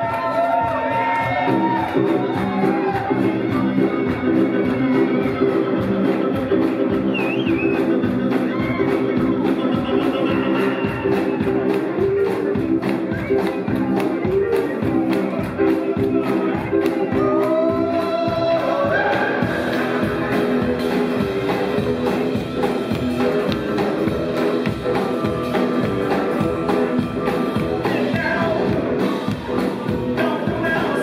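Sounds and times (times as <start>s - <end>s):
audience clapping along: 0.0s - 31.0s
electric guitar: 0.0s - 31.0s
rock and roll band playing: 0.0s - 31.0s.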